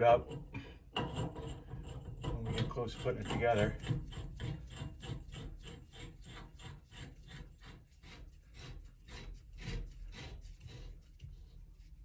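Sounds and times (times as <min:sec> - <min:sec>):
metal threads rasping: 0:00.0 - 0:11.1.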